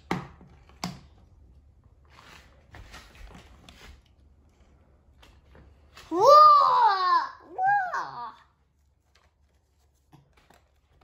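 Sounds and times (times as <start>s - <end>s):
faint rustling of toys handled: 0.4s - 6.4s, 7.4s - 11.0s.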